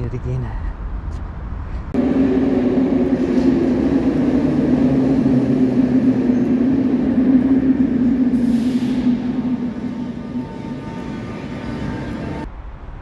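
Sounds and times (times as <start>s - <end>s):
metro train electric hum: 1.1s - 13.0s.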